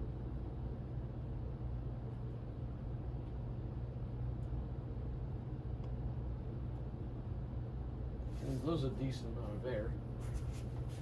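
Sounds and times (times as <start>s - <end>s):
ceiling fan running: 0.0s - 11.0s.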